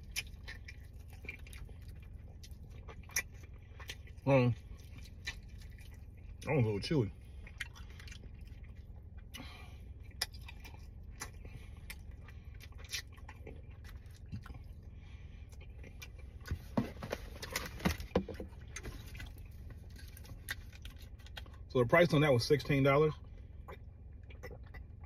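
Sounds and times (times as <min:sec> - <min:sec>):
chewing food: 0:00.0 - 0:21.7, 0:23.2 - 0:25.0
low hum inside a car: 0:00.0 - 0:25.0.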